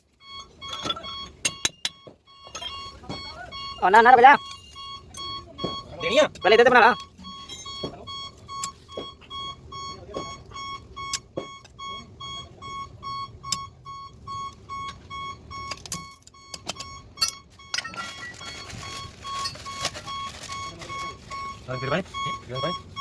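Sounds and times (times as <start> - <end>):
rapid electronic warning beeps: 0.2 - 23.0.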